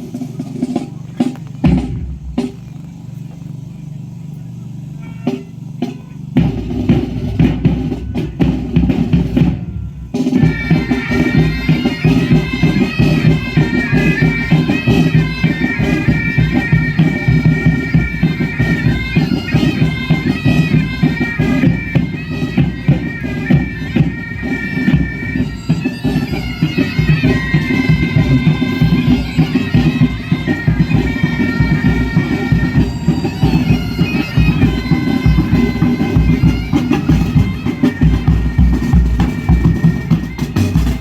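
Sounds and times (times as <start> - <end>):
drums beating: 0.0 - 41.0
bagpipes playing a melody: 4.9 - 41.0.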